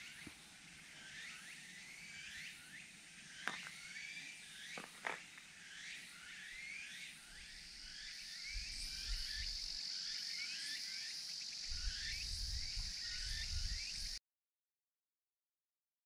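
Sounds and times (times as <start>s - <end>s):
insects droning: 0.0s - 14.2s.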